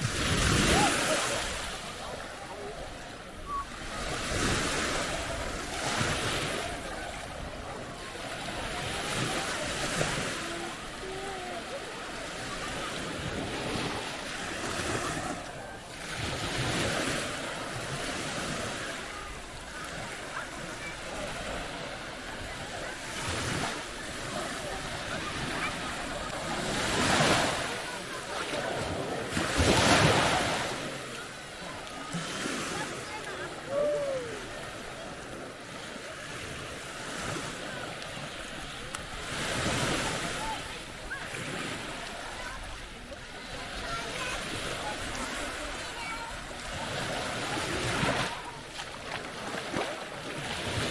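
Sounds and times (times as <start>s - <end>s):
surf washing onto beach: 0.0s - 50.9s
waves breaking on shore: 0.0s - 50.9s.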